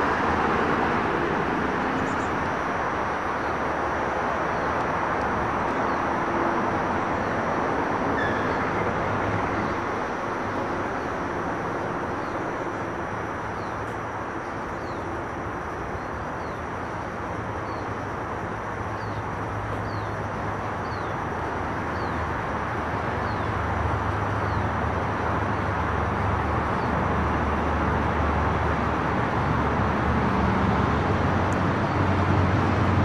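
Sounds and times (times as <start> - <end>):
distant city traffic: 0.0 - 33.0.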